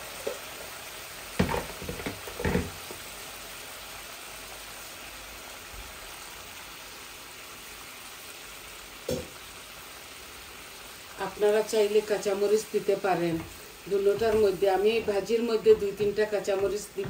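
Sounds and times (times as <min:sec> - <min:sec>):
sauce bubbling and sizzling in wok: 0:00.0 - 0:17.0.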